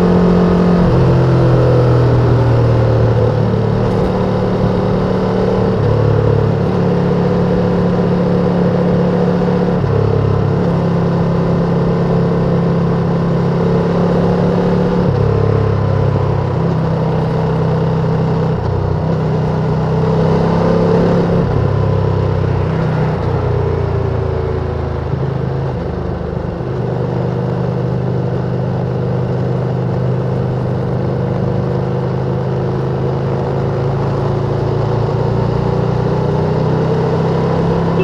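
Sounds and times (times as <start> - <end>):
motorcycle engine cruising: 0.0 - 38.0
wind and road noise: 0.0 - 38.0.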